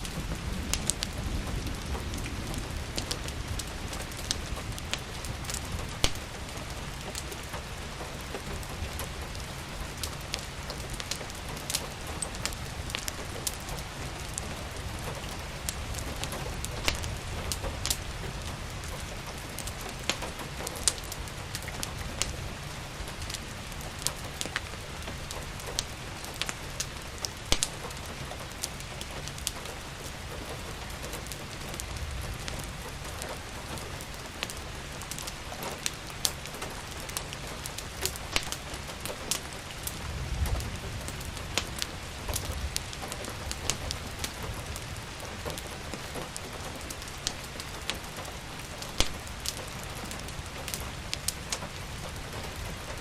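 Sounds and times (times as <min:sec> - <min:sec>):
steady rain falling: 0:00.0 - 0:53.0
wood fire crackling and popping: 0:00.0 - 0:53.0.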